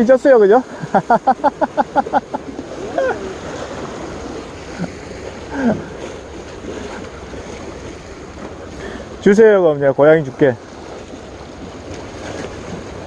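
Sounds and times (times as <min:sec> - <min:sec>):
sea waves washing on breakwater: 0:00.0 - 0:13.0.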